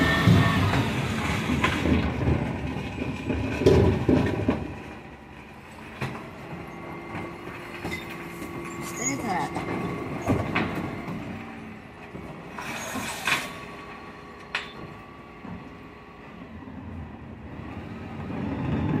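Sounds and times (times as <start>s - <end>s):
bin lorry engine rumble: 0.0s - 19.0s.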